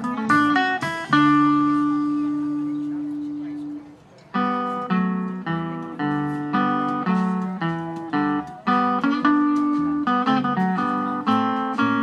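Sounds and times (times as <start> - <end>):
archtop guitar playing chords: 0.0 - 12.0.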